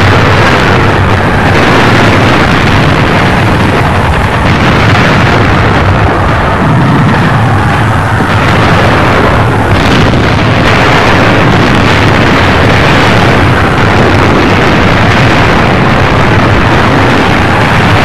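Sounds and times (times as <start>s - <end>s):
rumble of explosions: 0.0s - 18.0s.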